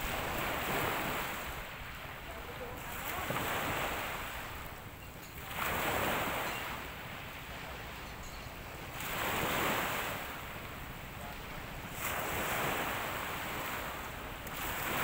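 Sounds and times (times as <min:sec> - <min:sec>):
small waves washing: 0:00.0 - 0:15.0.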